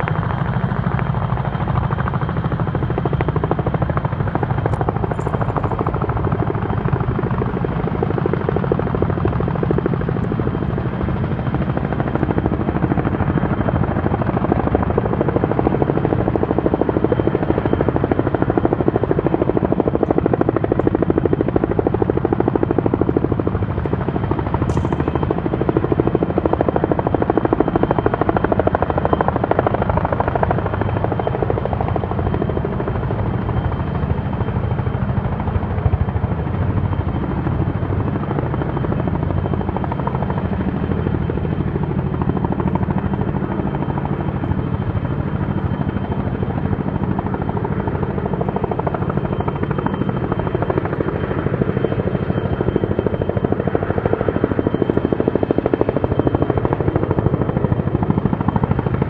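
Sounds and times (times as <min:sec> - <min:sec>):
helicopter rotors beating: 0:00.0 - 0:59.0
turbine engines running: 0:00.0 - 0:59.0.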